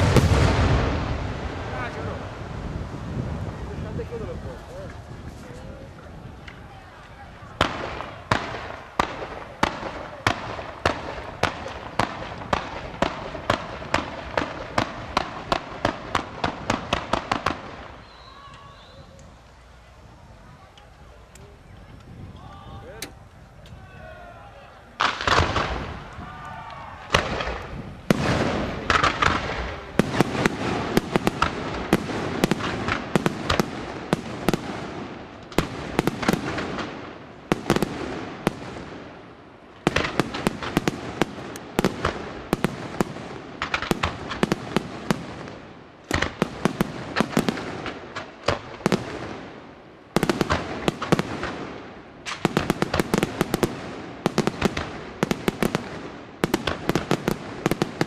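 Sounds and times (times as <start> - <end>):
fireworks bursting and crackling: 0.0 - 23.9, 24.5 - 58.0.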